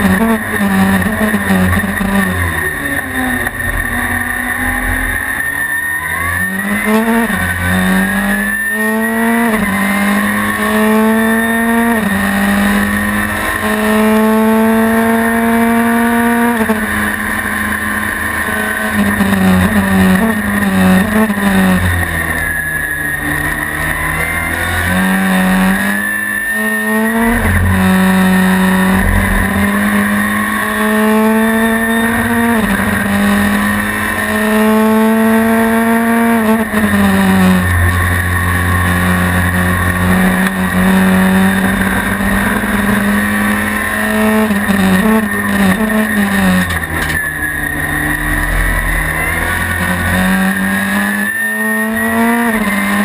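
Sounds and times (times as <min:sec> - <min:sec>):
race car engine revving: 0:00.0 - 0:53.0
steady high whine: 0:00.0 - 0:53.0.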